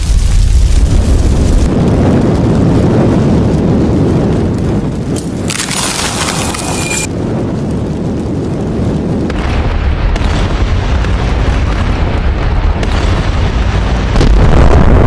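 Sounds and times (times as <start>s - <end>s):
explosion rumble: 0.0s - 15.0s.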